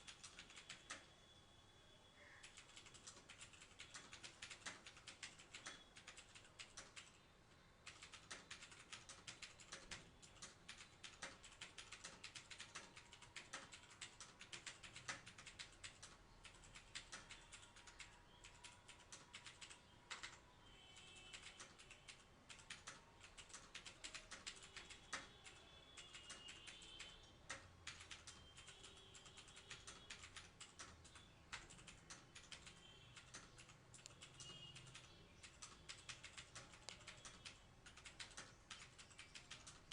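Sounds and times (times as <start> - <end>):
mechanical keyboard typing clicks: 0.0 - 1.1, 2.4 - 7.2, 7.8 - 20.4, 21.2 - 39.9.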